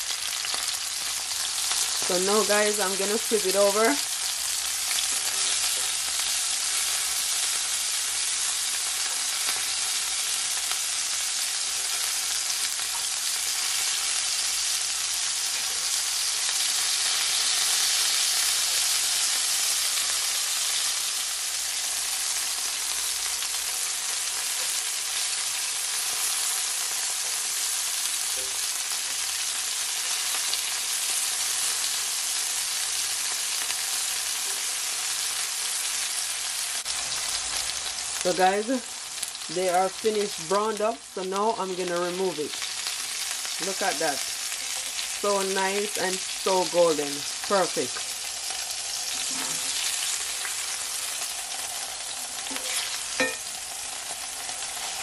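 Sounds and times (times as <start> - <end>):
chicken sizzling in a skillet: 0.0 - 55.0.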